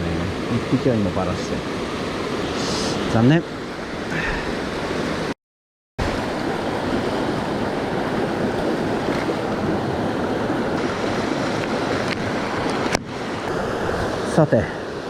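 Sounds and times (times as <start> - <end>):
stream water rushing: 0.0 - 5.4, 6.0 - 15.0.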